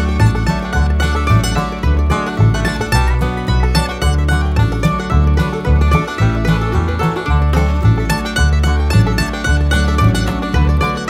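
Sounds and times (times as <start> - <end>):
steady bass line: 0.0 - 11.0
upbeat bluegrass banjo music: 0.0 - 11.0.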